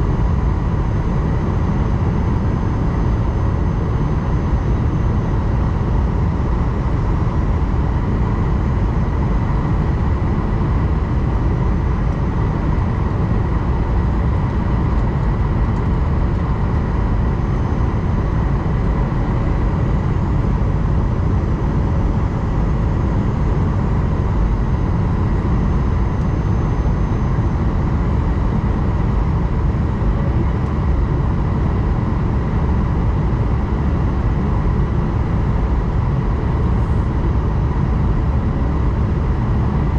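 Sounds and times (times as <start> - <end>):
airliner cabin drone: 0.0 - 39.9
faint steady whine: 0.0 - 39.9.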